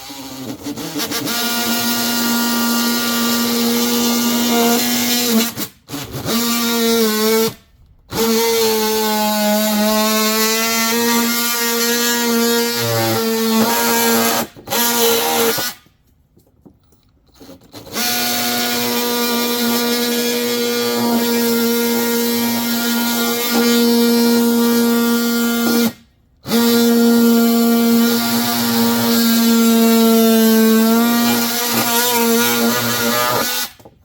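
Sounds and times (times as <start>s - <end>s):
power tool cutting plastic pipe: 0.0s - 15.9s, 17.4s - 33.9s.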